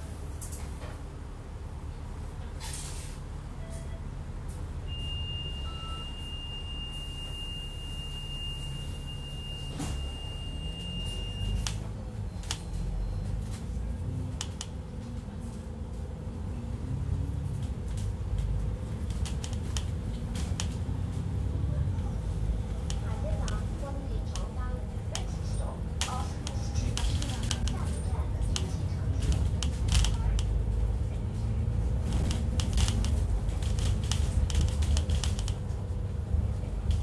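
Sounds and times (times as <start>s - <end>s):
rattles and clicks from bus body: 0.0s - 1.2s, 2.2s - 4.8s, 9.6s - 16.4s, 17.1s - 37.0s
bus engine rumble: 0.0s - 37.0s.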